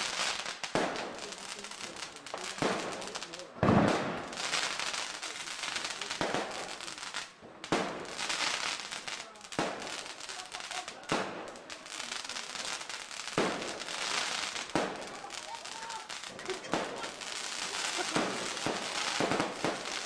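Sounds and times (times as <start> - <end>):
firework hissing crackle: 0.0 - 20.0
firework sharp pops: 0.0 - 20.0.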